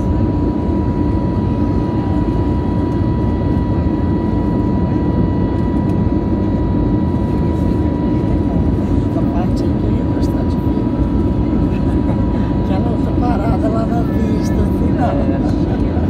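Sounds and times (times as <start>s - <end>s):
jet engine roar inside cabin: 0.0s - 16.0s.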